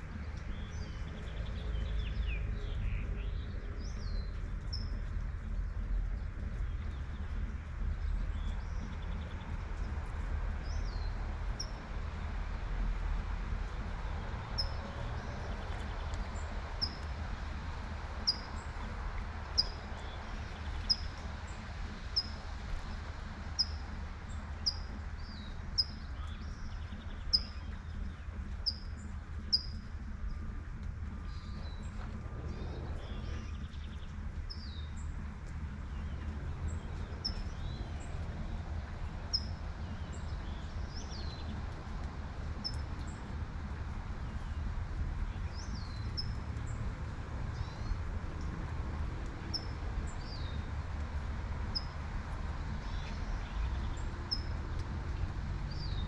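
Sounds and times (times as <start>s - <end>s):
songbird chirping: 0.0s - 12.9s, 13.6s - 56.0s
low rumble: 0.0s - 56.0s.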